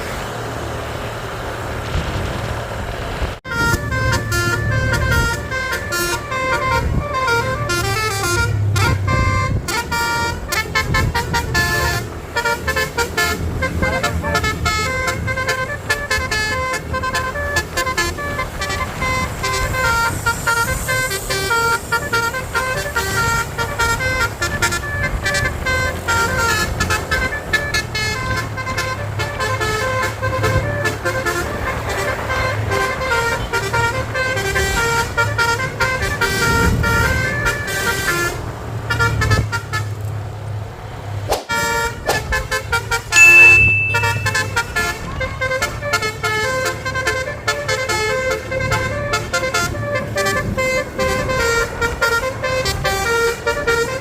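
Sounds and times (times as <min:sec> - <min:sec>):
bus engine rumble: 0:00.0 - 0:54.0
multi-tone bus horn melody: 0:03.4 - 0:40.2, 0:41.5 - 0:54.0
shrill high horn tone: 0:03.5 - 0:38.3, 0:41.5 - 0:54.0.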